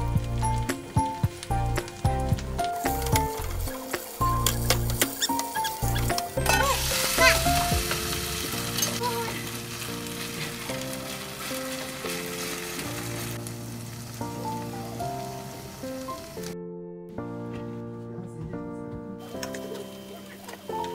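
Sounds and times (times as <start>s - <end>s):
batter sizzling in frying pan: 0.0s - 16.6s, 19.2s - 20.9s
soft background music: 0.0s - 20.9s.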